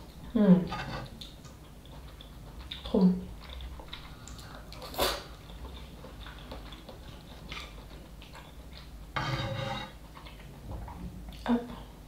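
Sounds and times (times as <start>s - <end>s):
quiet chewing: 0.9s - 9.2s, 9.8s - 11.9s.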